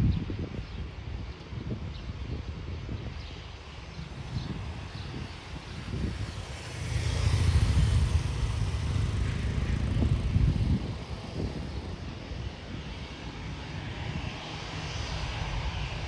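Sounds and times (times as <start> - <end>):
aircraft engine rumble: 0.0 - 16.0.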